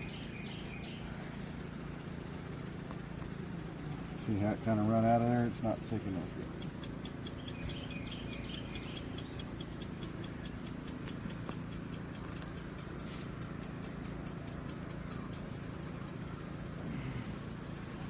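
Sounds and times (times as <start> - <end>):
fast even ticking: 0.0 - 18.0
honeybee colony humming: 0.0 - 18.0.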